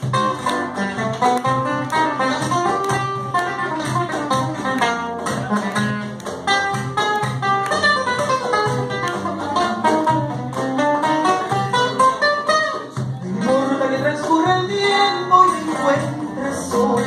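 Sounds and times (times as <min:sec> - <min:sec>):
acoustic guitars playing waltz: 0:00.0 - 0:17.0.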